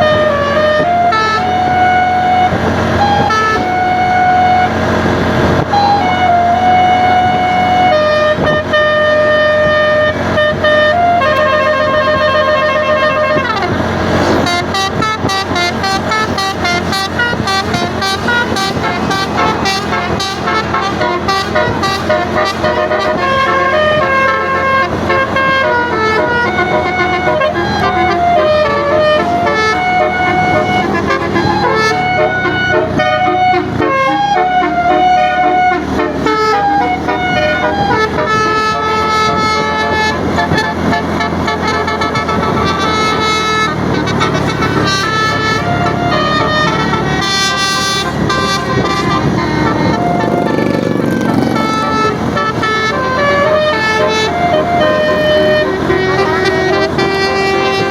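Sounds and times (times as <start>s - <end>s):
low steady rumble: 0.0s - 57.9s
multi-tone bus air horn melody: 0.0s - 57.9s.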